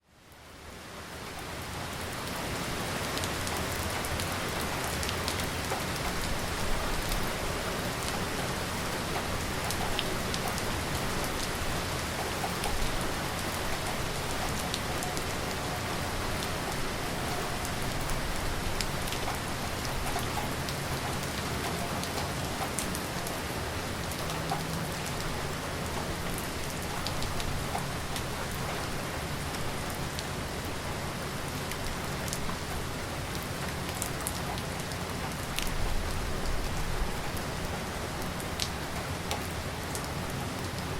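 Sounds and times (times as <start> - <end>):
heavy rain: 0.0 - 40.9
raindrops ticking: 3.0 - 30.8, 31.6 - 40.9.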